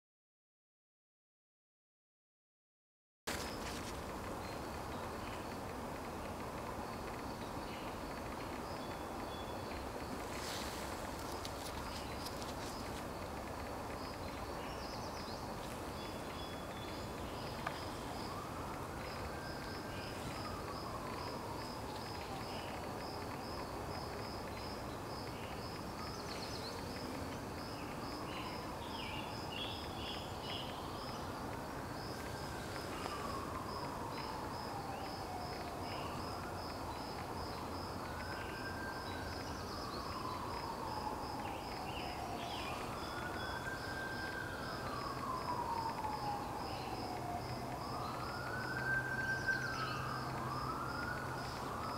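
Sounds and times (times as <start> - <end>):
insect trilling: 6.8 - 51.9.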